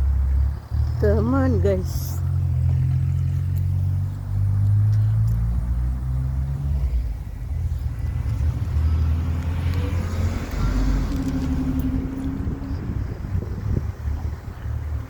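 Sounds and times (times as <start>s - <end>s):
car engine humming: 0.0s - 15.0s
vehicle passing with tyre noise: 0.0s - 15.0s.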